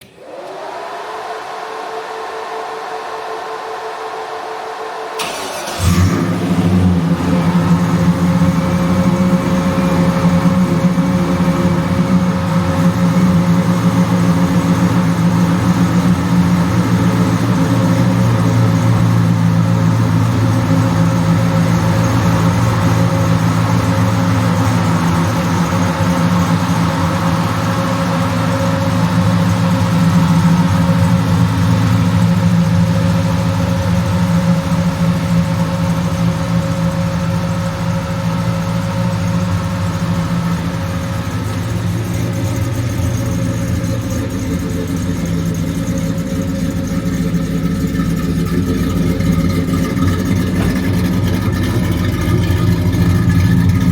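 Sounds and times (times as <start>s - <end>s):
pickup truck engine running: 0.0s - 53.9s.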